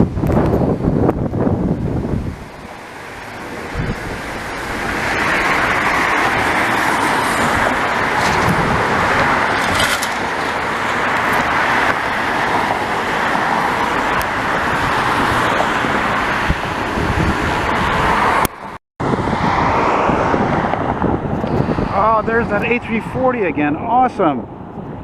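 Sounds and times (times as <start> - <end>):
jet engine roar: 2.3 - 24.2.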